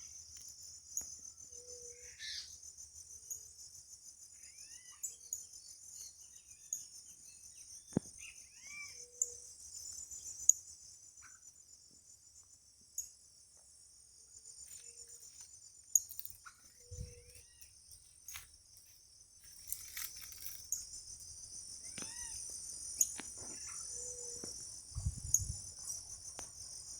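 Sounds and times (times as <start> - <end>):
bird chirps: 0.0 - 3.5, 4.2 - 12.0, 14.3 - 18.4, 19.5 - 26.9
insects chirping chorus: 0.0 - 26.9.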